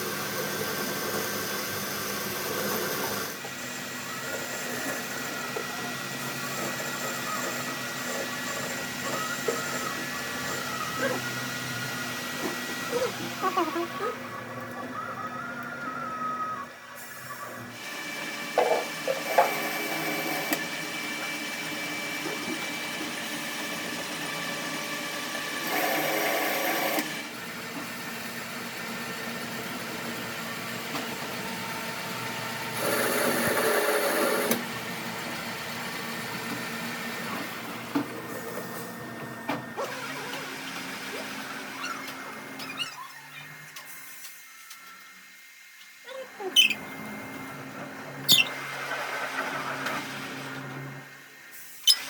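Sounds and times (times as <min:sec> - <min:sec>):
workshop machine hissing: 0:00.0 - 0:52.0.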